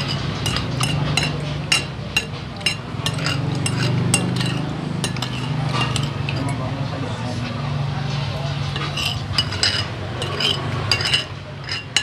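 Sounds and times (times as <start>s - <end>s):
cutlery clinking on plate: 0.0s - 6.7s, 8.8s - 12.0s.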